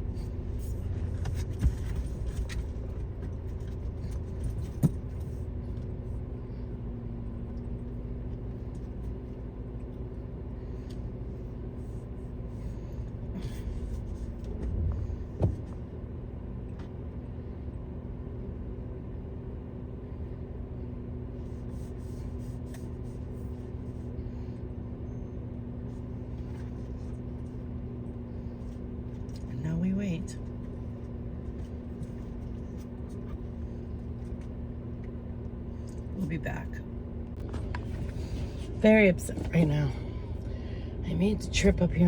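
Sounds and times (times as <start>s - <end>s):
car cabin rumble and hum: 0.0s - 42.0s.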